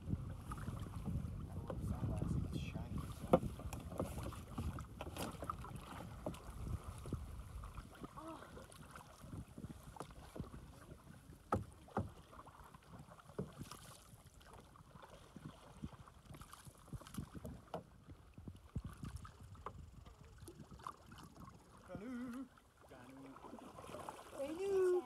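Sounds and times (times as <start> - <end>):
paddles dipping and dripping: 0.2 - 25.0.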